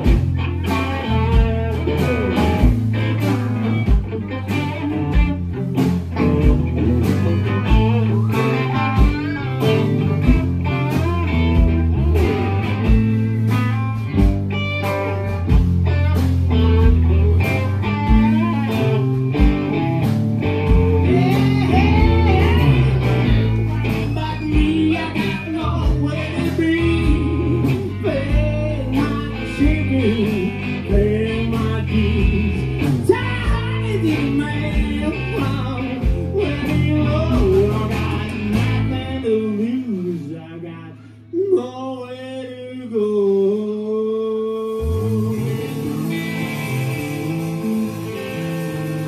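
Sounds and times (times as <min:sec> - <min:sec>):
drum kit beat: 0:00.0 - 0:39.3, 0:44.8 - 0:49.0
electric guitars: 0:00.0 - 0:41.7, 0:42.4 - 0:49.0
electric bass: 0:00.0 - 0:49.0.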